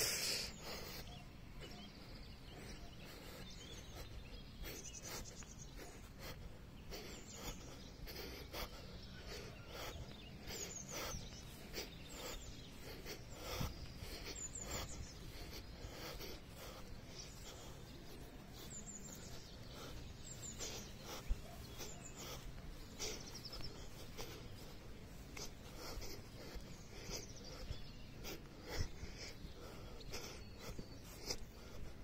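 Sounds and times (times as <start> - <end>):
outdoor background hiss: 0.0 - 32.0
small birds chirping: 0.0 - 32.0.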